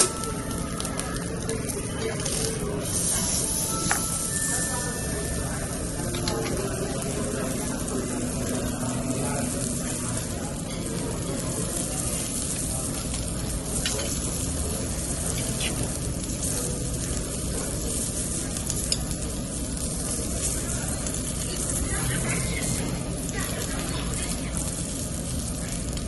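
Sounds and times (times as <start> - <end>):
beef sizzling on a grill: 0.0 - 26.0.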